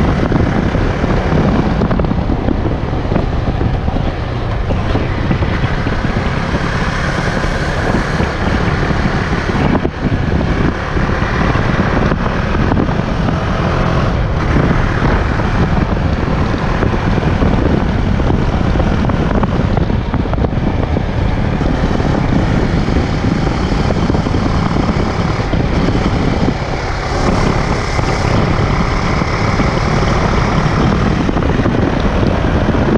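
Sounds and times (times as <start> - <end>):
motorcycle engine running: 0.0 - 32.9
wind rush on microphone: 0.0 - 32.9.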